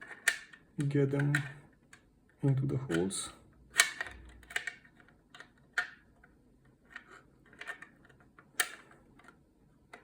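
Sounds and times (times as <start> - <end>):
plastic parts clicking and knocking: 0.0 - 10.0.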